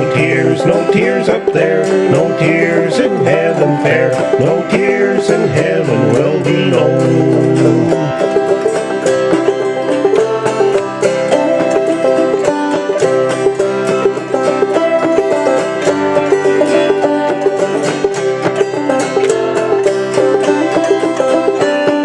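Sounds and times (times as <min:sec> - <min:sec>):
plucked banjo notes: 0:00.0 - 0:22.0
strummed autoharp chords: 0:00.0 - 0:22.0.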